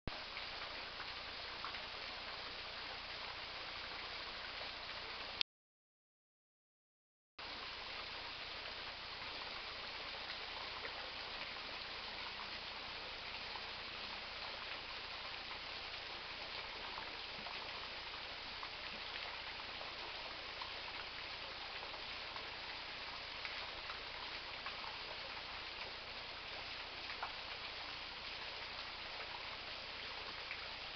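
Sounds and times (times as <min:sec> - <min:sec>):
small waterfall splashing: 0:00.1 - 0:05.4, 0:07.4 - 0:30.9.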